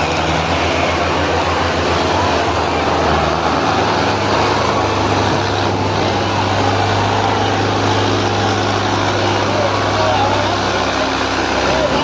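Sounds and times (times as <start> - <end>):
dense noisy background: 0.0 - 12.0
tractor diesel engine running: 0.0 - 12.0.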